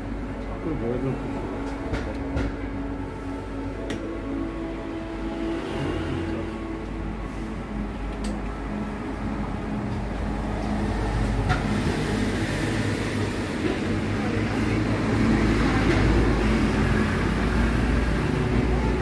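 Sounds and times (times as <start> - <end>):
low rumble of street traffic: 0.0 - 19.0
shop ambience: 0.0 - 19.0.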